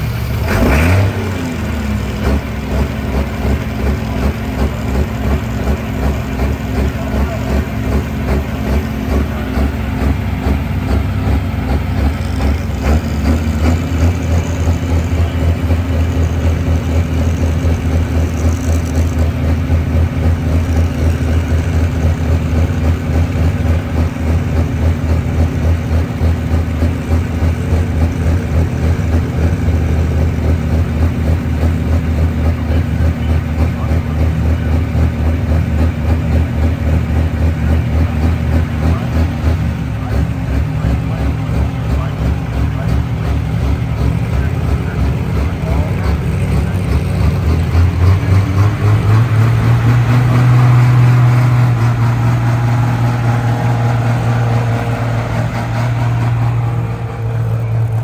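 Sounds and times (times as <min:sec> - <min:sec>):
tractor engine idling loudly: 0:00.0 - 0:58.0.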